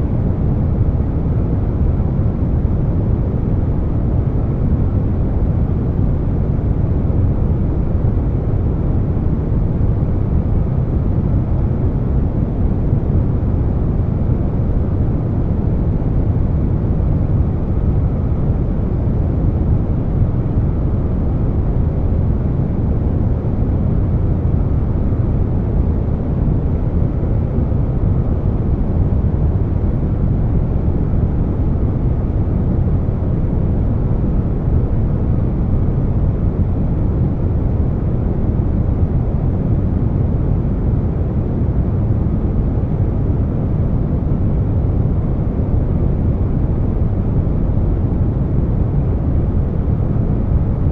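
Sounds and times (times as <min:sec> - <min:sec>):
air conditioner noise: 0:00.0 - 0:50.9.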